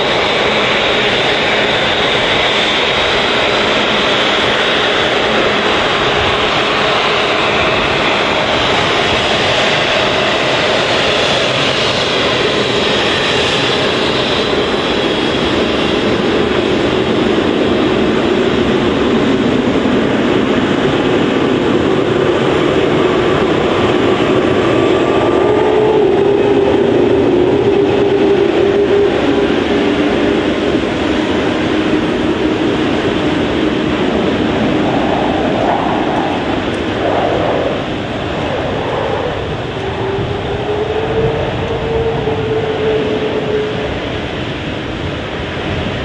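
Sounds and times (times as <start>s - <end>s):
jet engines with high whine: 0.0s - 46.0s.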